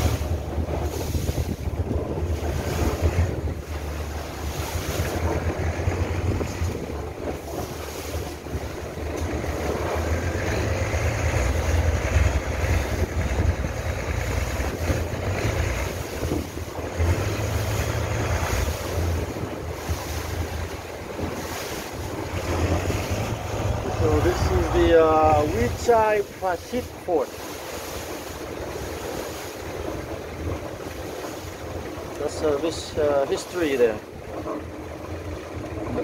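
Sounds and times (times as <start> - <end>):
water rushing along boat hull: 0.0 - 36.0
wind buffeting microphone: 0.0 - 36.0.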